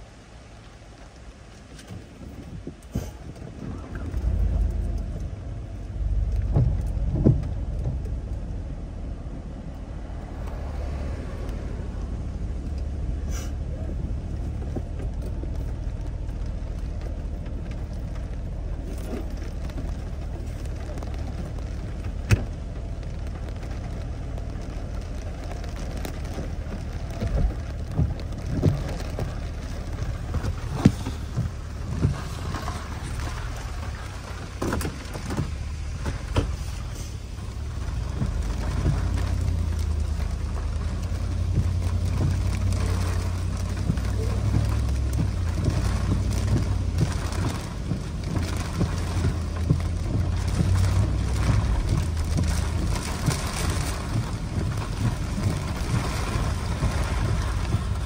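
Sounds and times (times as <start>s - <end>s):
low steady rumble: 0.0s - 58.0s
rain falling: 0.0s - 58.0s.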